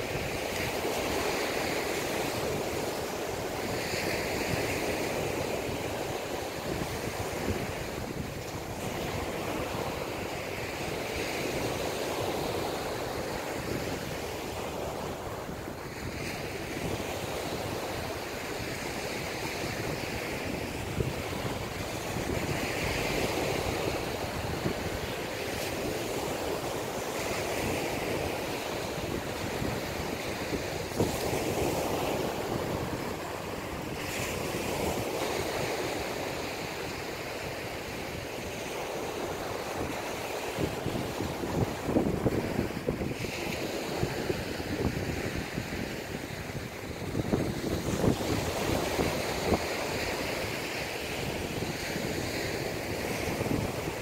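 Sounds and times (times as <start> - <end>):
sea waves breaking on beach: 0.0 - 54.0
wind buffeting microphone: 0.0 - 54.0.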